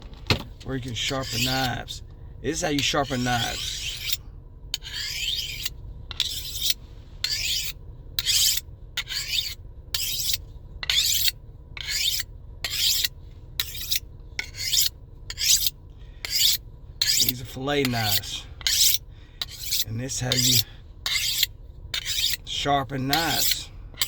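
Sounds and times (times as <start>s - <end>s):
knife scraping through sharpener: 1.0s - 1.9s, 2.8s - 4.2s, 4.8s - 23.7s.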